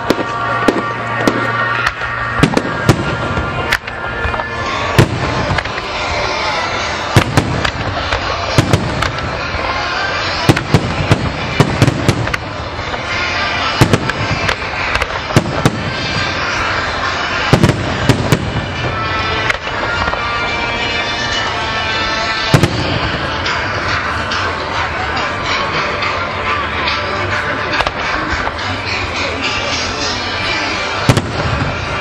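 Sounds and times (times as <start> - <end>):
crackling rumble: 0.0 - 32.0.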